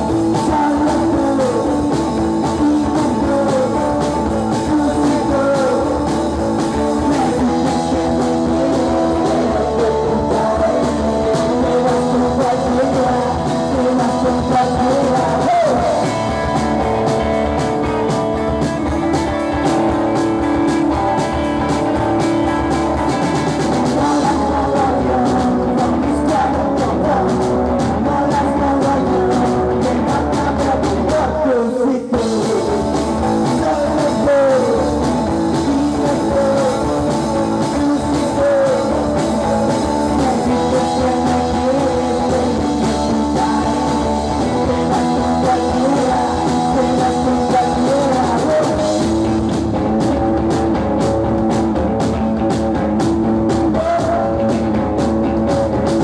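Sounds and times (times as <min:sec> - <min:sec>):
man singing through pa: 0:00.0 - 0:18.6, 0:23.7 - 0:50.4, 0:53.3 - 0:56.0
drum kit: 0:00.0 - 0:56.0
electric guitars: 0:00.0 - 0:56.0.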